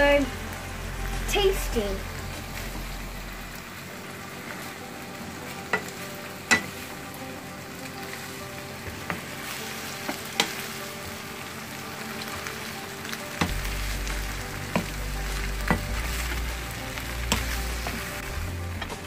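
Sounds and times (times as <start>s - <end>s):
noodles sizzling in a frying pan: 0.0s - 19.0s.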